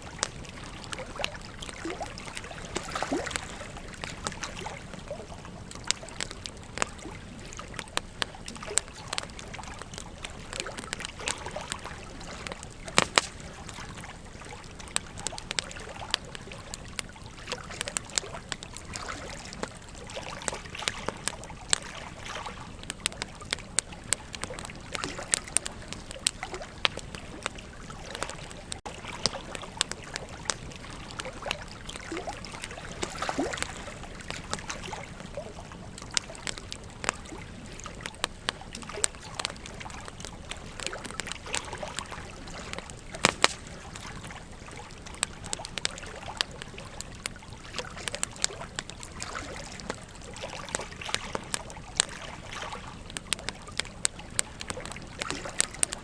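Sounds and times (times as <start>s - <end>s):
campfire crackling and popping: 0.0s - 56.0s
flowing river water: 0.0s - 56.0s.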